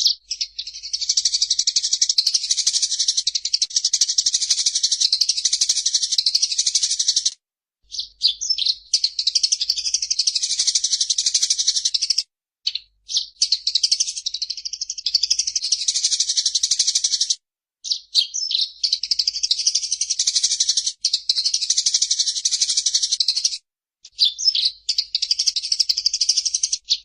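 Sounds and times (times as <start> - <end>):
sparrow chattering: 0.0 - 27.0.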